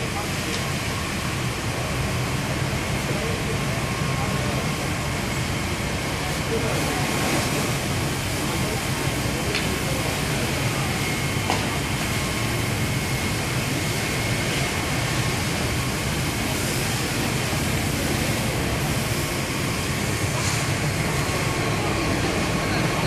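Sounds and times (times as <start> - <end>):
water spray hitting fire: 0.0 - 23.0.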